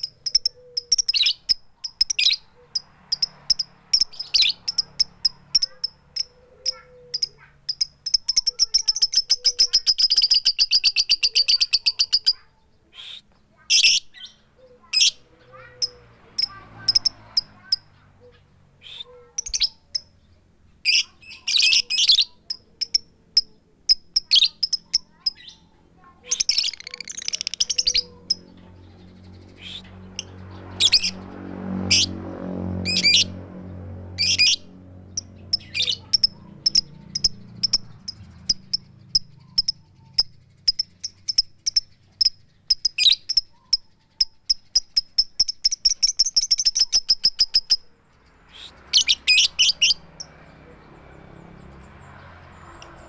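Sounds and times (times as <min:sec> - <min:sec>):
lovebird chirping: 0:00.0 - 0:31.2, 0:34.2 - 0:53.0.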